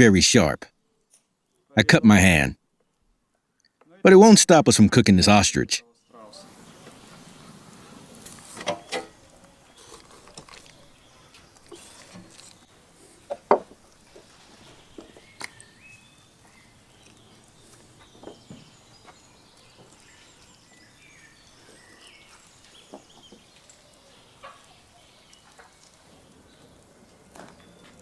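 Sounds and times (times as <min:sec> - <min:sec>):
faint birds calling: 0:04.6 - 0:28.0.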